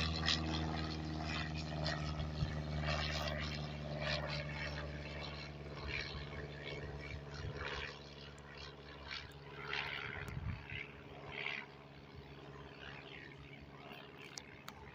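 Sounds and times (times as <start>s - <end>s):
propeller airplane engine droning: 0.0s - 14.9s.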